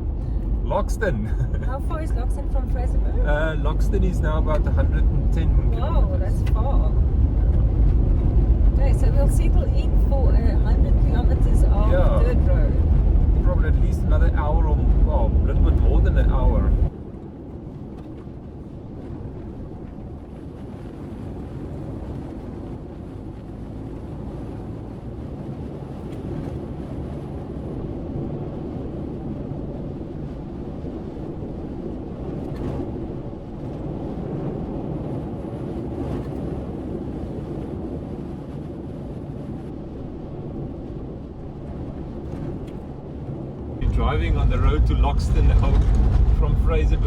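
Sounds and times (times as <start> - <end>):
vehicle driving on gravel road: 0.0 - 38.3, 40.5 - 47.0.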